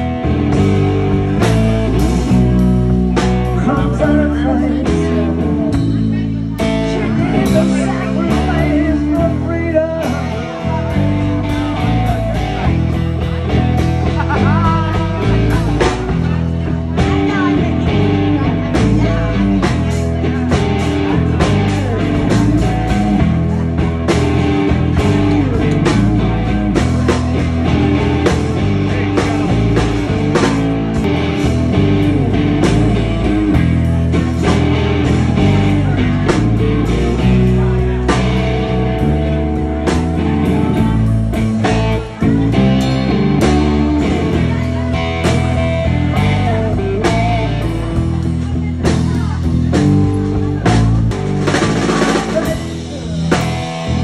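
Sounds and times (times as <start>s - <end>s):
blues-rock band playing: 0.0s - 54.0s
electric guitar bending notes: 0.0s - 54.0s.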